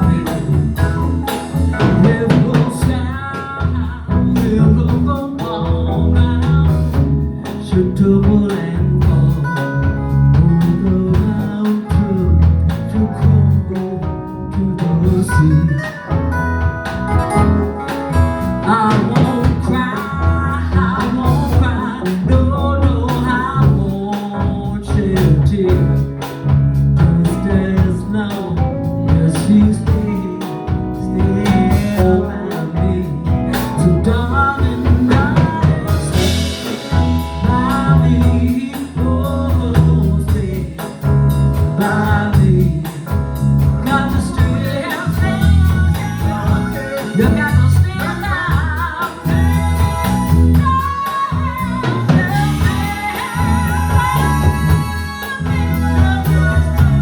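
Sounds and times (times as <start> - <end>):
live band with bass and drums: 0.0 - 57.0
person singing: 0.0 - 57.0.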